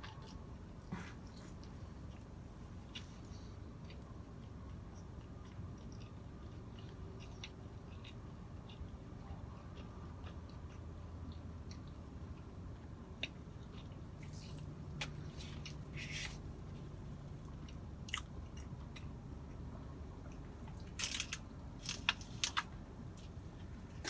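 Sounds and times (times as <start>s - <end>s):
chewing and biting food: 0.0s - 19.6s.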